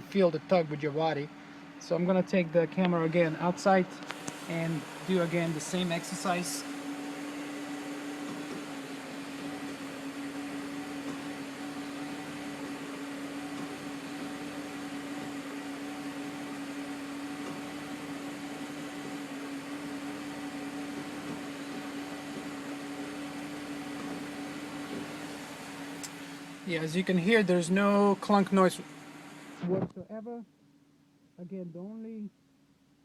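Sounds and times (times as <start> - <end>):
car engine idling: 0.0 - 29.6.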